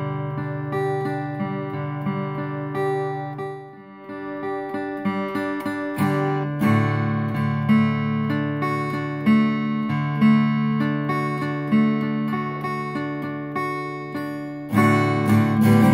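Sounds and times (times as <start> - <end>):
acoustic guitar strumming: 0.0 - 15.9.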